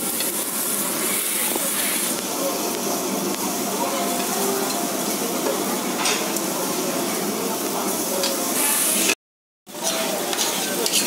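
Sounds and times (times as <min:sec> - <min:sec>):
shrimp sizzling on grill: 0:00.0 - 0:11.0.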